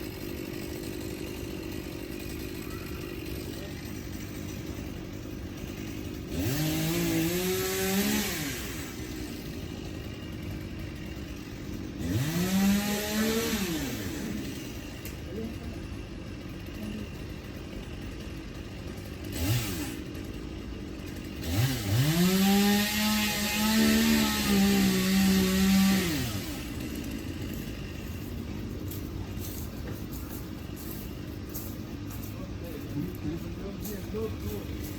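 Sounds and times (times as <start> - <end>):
chainsaw idling and revving: 0.0 - 34.9.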